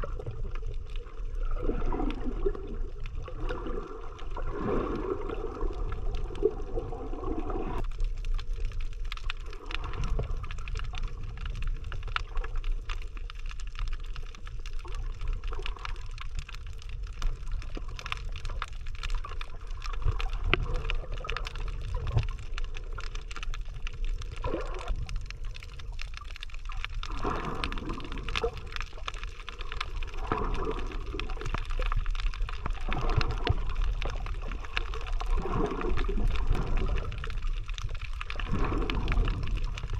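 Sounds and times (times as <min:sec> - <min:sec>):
fine crackle of clicks: 0:00.0 - 0:39.9
swells of water: 0:00.0 - 0:39.9
underwater rumble: 0:00.0 - 0:39.9.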